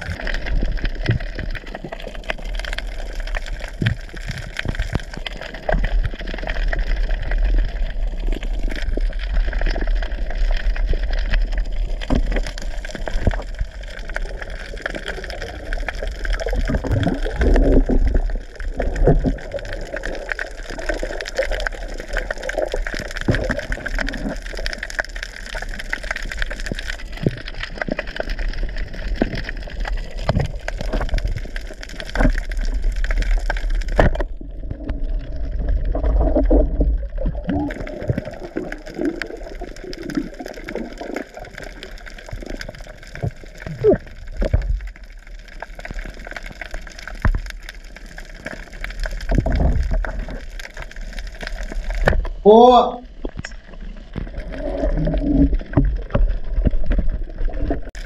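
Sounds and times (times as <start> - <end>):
underwater water rushing: 0.0 - 58.0.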